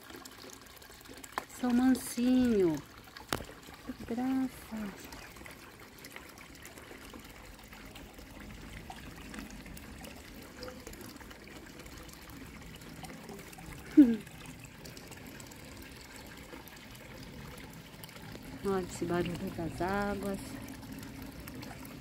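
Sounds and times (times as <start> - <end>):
water trickling into pond: 0.0 - 22.0.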